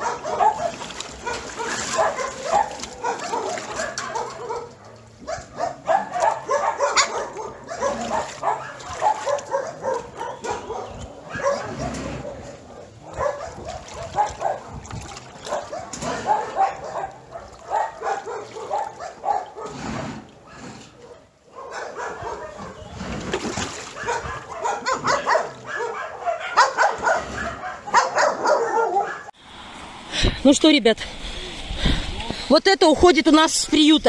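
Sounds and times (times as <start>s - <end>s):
dogs barking and yipping: 0.0s - 19.8s, 20.4s - 23.0s, 23.8s - 29.4s.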